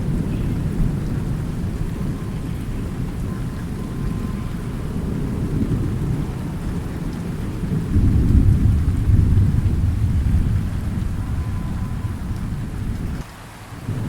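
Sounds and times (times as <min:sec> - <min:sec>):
rolling thunder: 0:00.0 - 0:14.0
steady rain: 0:00.0 - 0:14.0.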